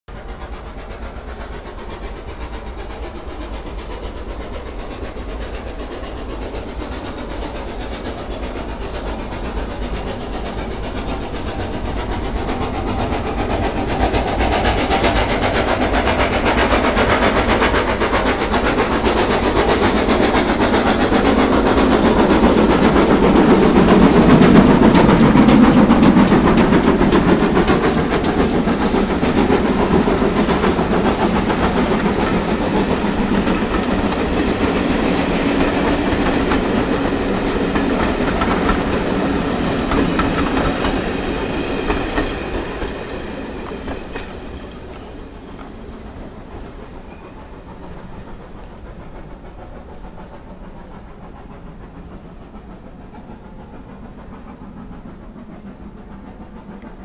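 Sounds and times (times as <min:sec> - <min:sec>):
train rattling on rails: 0:00.1 - 0:57.0.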